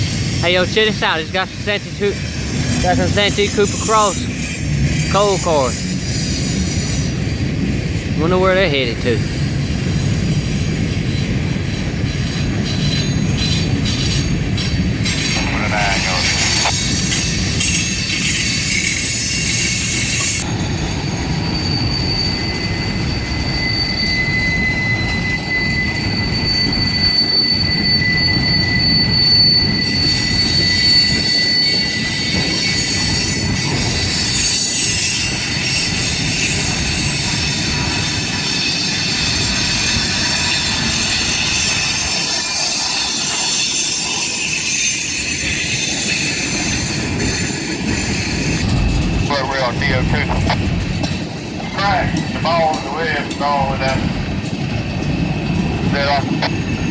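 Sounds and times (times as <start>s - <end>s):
high thin wheel squeal: 0.0s - 7.4s, 11.0s - 48.6s, 51.8s - 56.9s
train wheels rumbling on rail: 0.0s - 56.9s.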